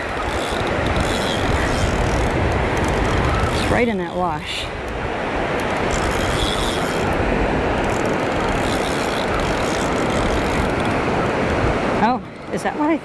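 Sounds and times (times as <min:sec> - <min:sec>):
fishing reel gears whirring: 0:00.0 - 0:11.6.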